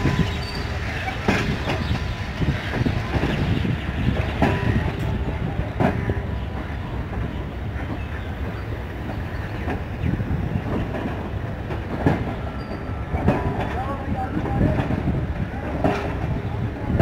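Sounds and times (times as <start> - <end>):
train rumbling past: 0.0 - 17.0
train wheels clicking over rail joints: 0.0 - 17.0.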